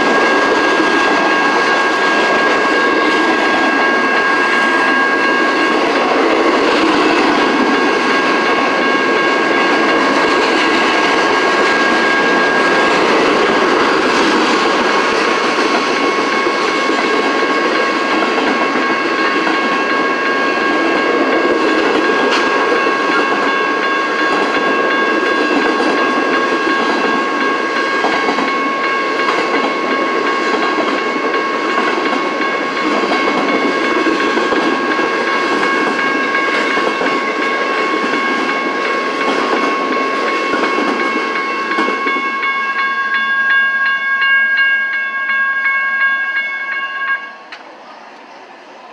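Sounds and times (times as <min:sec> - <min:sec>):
freight train rolling over rails: 0:00.0 - 0:48.9
steady high-pitched tones: 0:00.0 - 0:48.9.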